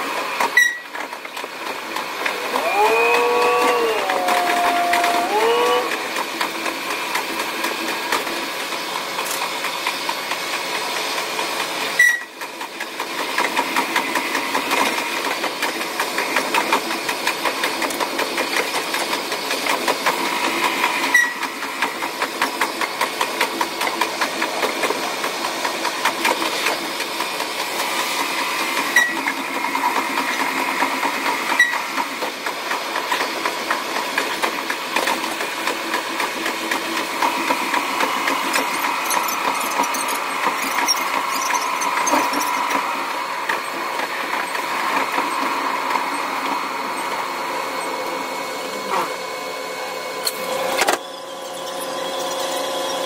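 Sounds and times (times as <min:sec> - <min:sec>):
fast steady train clatter: 0:00.0 - 0:53.0.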